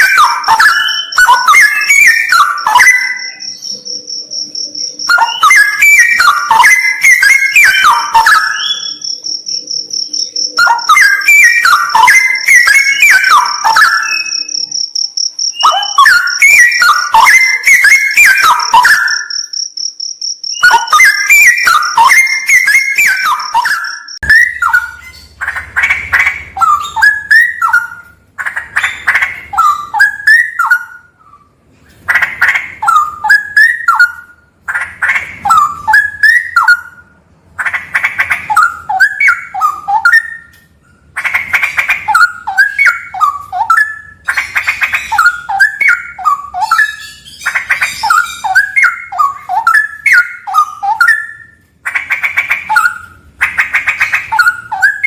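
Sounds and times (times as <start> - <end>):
bird singing warbled phrases: 0.0 - 19.8, 20.4 - 55.0.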